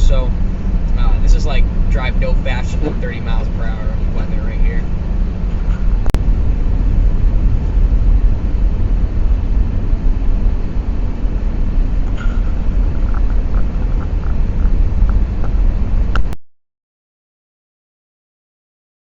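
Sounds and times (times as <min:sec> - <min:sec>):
car driving on icy road: 0:00.0 - 0:16.4.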